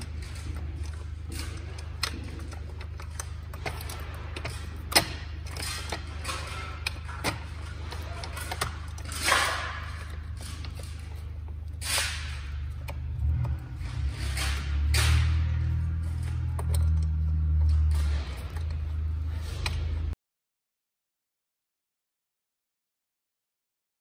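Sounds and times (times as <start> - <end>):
metal clicks and knocks: 0.0 - 20.2
metal frame rustling and scraping: 0.0 - 20.2
steady low hum: 0.0 - 20.2.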